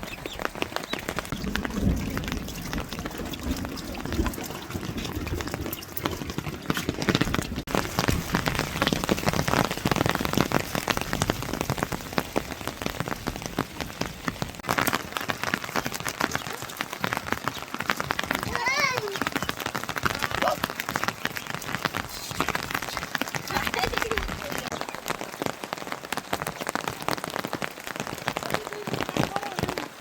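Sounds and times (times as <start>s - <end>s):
raindrops pattering on surfaces: 0.0s - 30.0s
steady rain falling: 0.0s - 30.0s.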